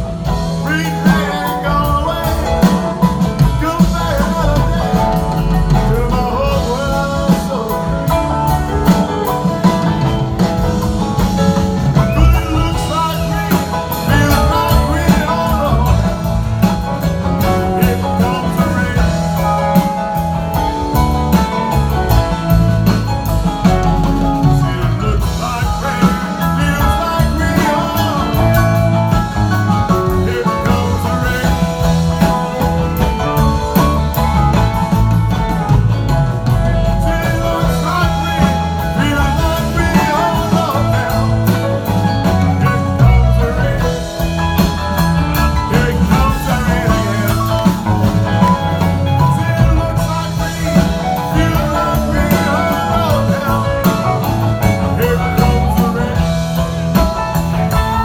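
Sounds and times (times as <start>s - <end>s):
bass guitar: 0.0s - 58.0s
drum kit: 0.0s - 58.0s
electric guitars: 0.0s - 58.0s.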